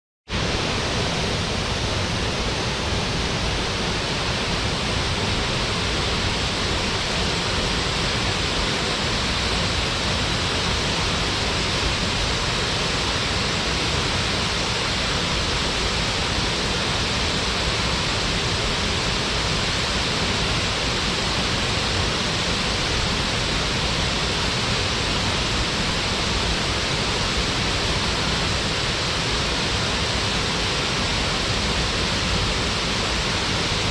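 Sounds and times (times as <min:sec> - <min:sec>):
waterfall roaring: 0:00.3 - 0:33.9.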